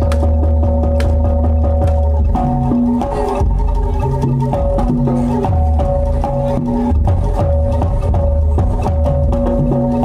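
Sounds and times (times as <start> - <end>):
steady low drum beat: 0.0 - 10.0
struck pitched percussion: 0.0 - 10.0.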